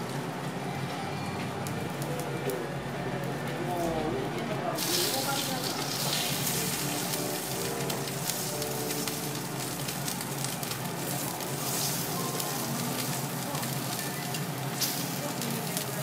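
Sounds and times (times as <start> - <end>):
fat sizzling on a hot griddle: 1.7 - 16.0.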